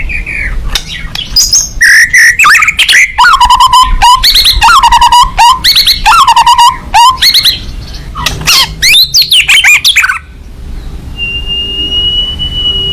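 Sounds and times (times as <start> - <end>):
songbird singing trills and whistles: 0.0 - 12.9.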